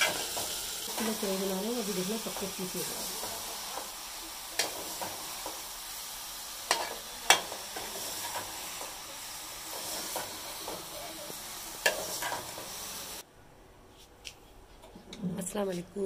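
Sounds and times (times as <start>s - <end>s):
vegetables sizzling in a pot: 0.0s - 13.2s.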